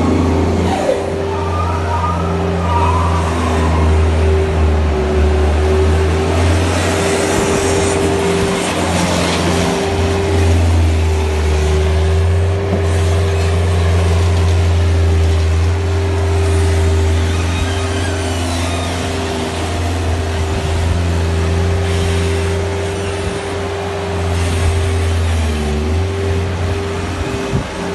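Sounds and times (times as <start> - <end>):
loader engine running: 0.0 - 27.9.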